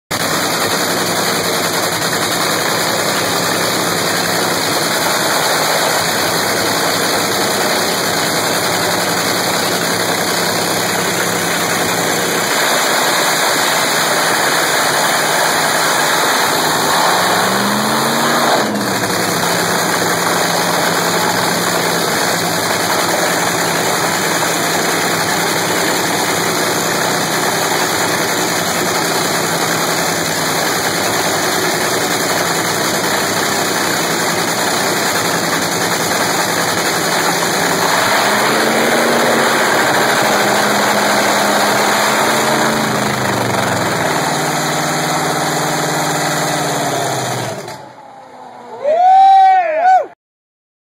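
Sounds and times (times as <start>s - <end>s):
supercharged engine idling: 0.0s - 48.6s
engine revving: 0.1s - 48.6s.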